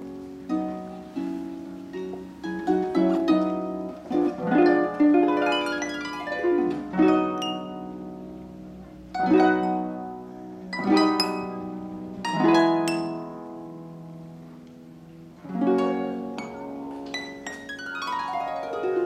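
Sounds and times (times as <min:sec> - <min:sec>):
harp playing: 0:00.0 - 0:19.0.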